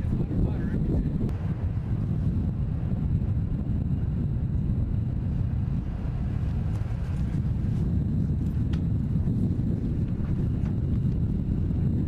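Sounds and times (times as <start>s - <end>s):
steady low rumbling: 0.0s - 12.0s.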